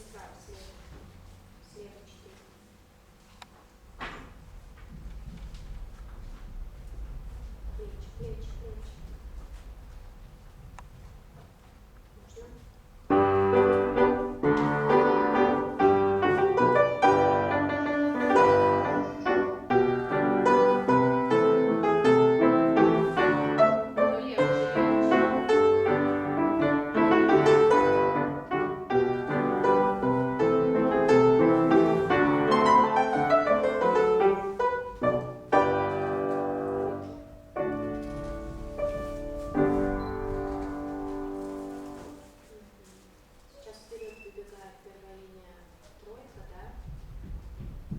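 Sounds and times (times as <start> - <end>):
classical piano piece: 3.9 - 45.0, 46.0 - 47.9.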